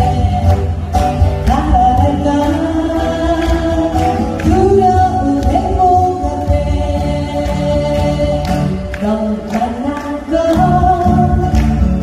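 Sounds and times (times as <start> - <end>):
woman singing a ballad: 0.0 - 0.8, 1.4 - 12.0
acoustic guitars strumming: 0.0 - 12.0.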